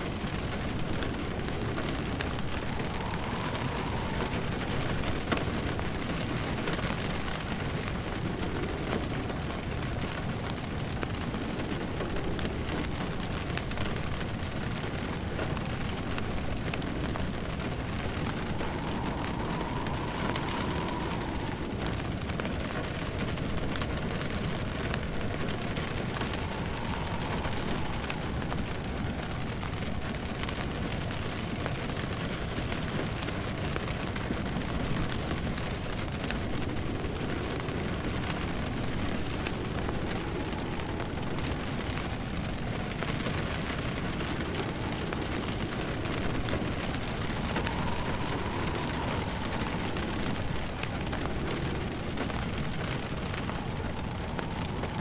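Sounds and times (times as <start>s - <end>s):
faint whistling wind: 0.0s - 55.0s
steady rain: 0.0s - 55.0s
wood fire crackling: 0.0s - 55.0s.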